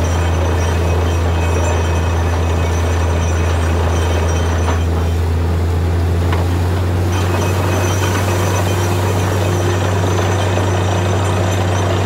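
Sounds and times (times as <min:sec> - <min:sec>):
drilling rig engine drone: 0:00.0 - 0:12.0.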